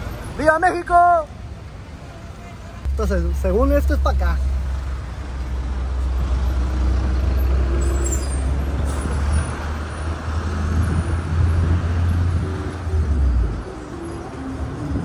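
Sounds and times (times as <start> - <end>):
vehicle engine and wind rumble: 0.0 - 15.0.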